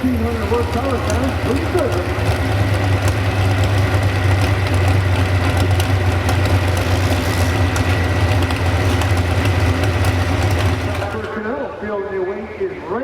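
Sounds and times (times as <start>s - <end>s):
truck engine deep idle: 0.0s - 12.3s.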